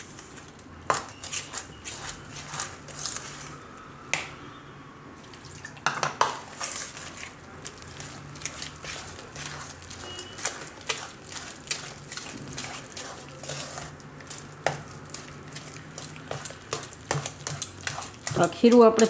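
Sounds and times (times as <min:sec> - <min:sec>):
spoon stirring thick batter: 0:00.0 - 0:03.6, 0:05.2 - 0:19.0.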